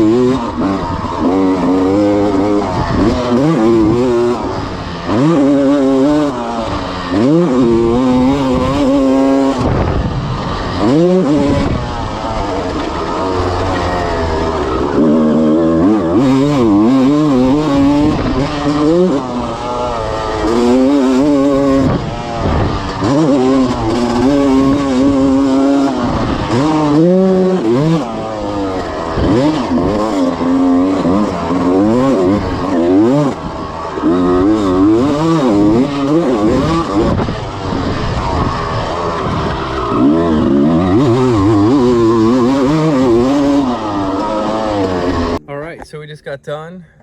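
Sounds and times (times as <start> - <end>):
motorcycle engine revving: 0.0 - 46.3.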